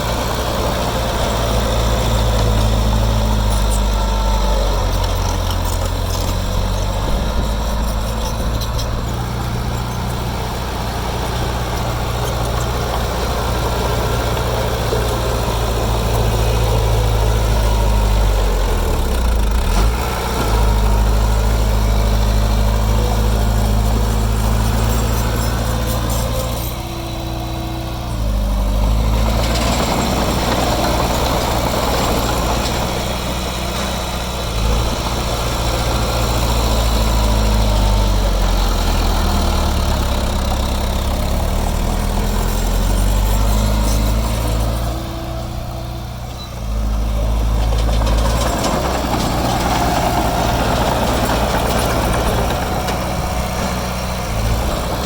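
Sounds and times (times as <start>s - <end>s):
diesel engine of construction machine: 0.0s - 55.0s.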